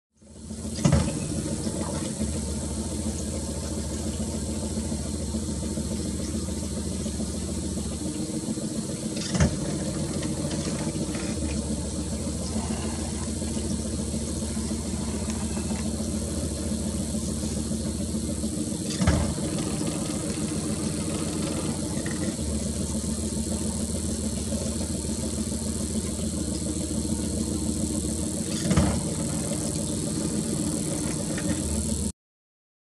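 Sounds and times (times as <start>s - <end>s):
boat motor idling: 0.2s - 32.1s.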